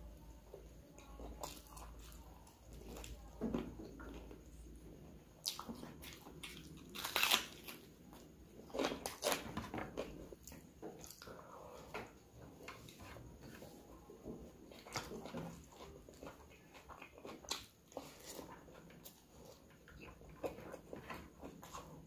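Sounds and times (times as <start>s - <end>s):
man chewing food: 0.5s - 22.0s.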